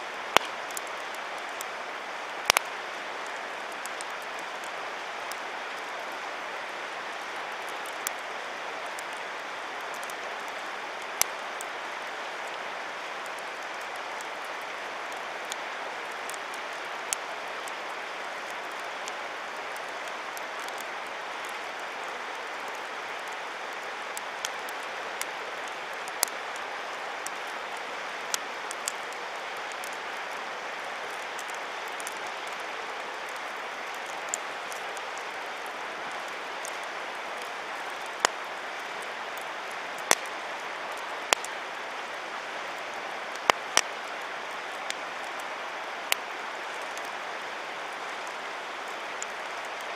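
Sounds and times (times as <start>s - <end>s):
campfire crackling and popping: 0.0s - 49.9s
river water rushing: 0.0s - 49.9s.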